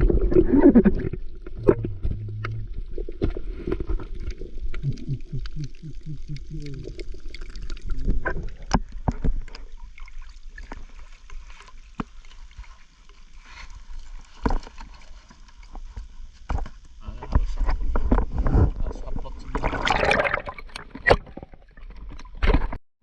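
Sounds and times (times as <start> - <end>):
water splashing around a boat: 0.0 - 22.7.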